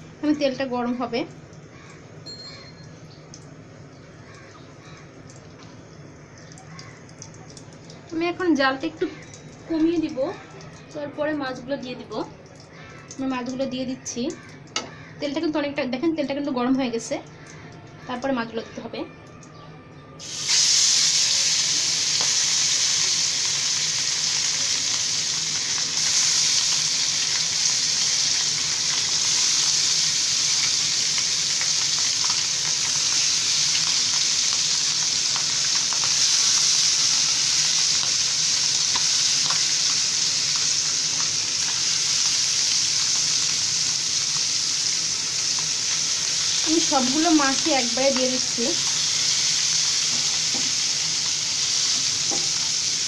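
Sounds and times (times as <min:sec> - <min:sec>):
fish sizzling in hot oil: 0:00.0 - 0:15.7, 0:20.2 - 0:53.0.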